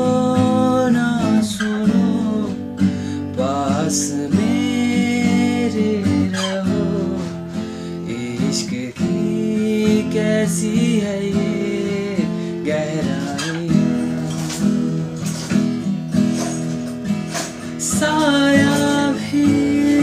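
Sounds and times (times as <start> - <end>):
man singing: 0.0 - 15.7, 17.6 - 20.0
acoustic guitar strummed: 0.0 - 20.0.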